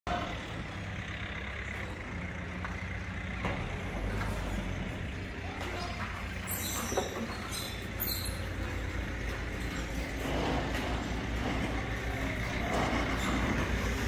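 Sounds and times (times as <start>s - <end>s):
heavy vehicle engine rumbling: 0.1s - 14.0s.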